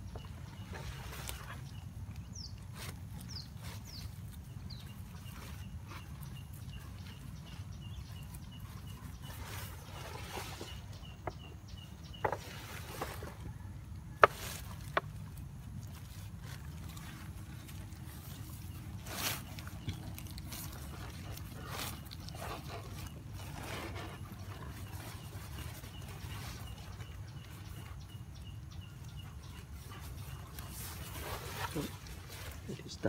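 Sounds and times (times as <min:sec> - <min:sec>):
hands scraping soil: 0:00.0 - 0:33.0.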